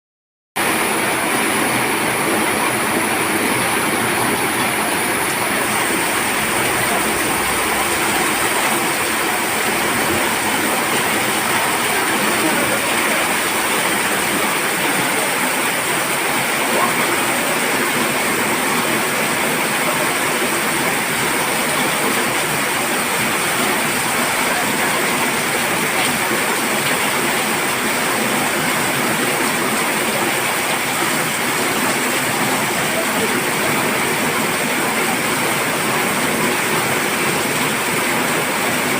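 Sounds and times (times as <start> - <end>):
heavy rain falling: 0.6 - 38.9.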